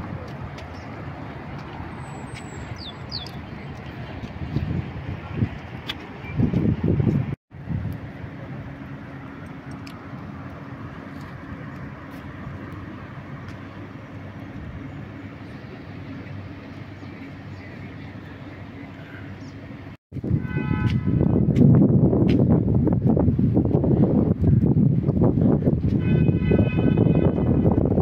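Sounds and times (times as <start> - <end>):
distant city traffic hum: 0.0 - 28.0.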